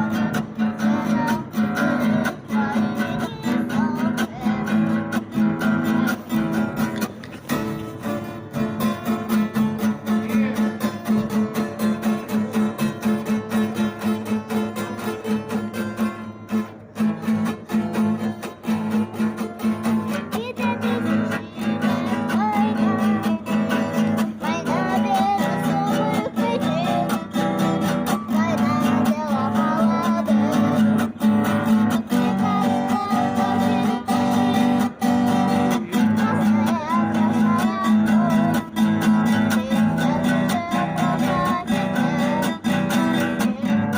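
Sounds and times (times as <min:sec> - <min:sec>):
acoustic guitar strumming: 0:00.0 - 0:43.9.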